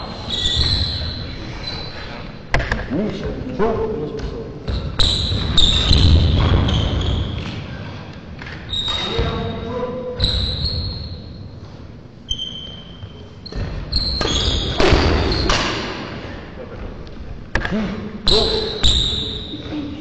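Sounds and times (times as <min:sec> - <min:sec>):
shoes squeaking on court floor: 0:00.0 - 0:02.5, 0:04.2 - 0:16.2, 0:18.3 - 0:20.0.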